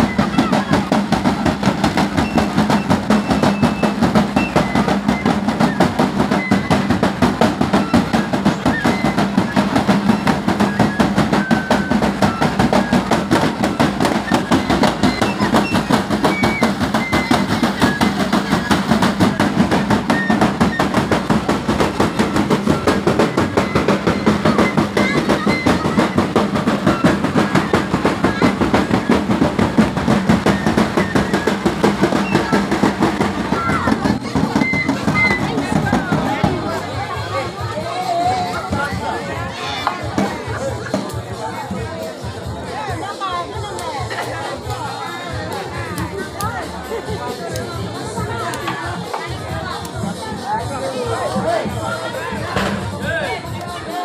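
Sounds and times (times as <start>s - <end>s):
crowd voices: 0.0s - 54.0s
drums beating fast rhythm: 0.0s - 54.0s.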